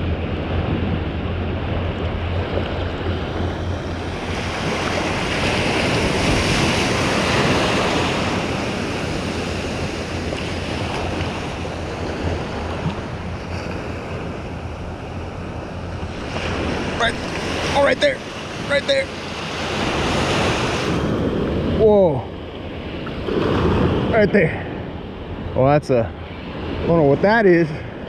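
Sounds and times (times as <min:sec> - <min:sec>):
surf washing in shallow water: 0:00.0 - 0:28.0
wind buffeting microphone: 0:00.0 - 0:28.0.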